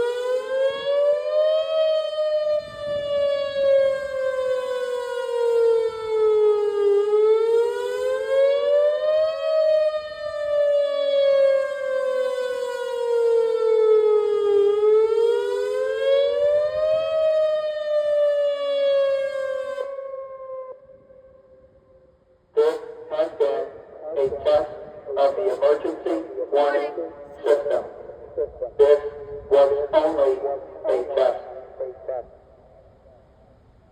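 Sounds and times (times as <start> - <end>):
warning siren wailing: 0.0 - 32.3.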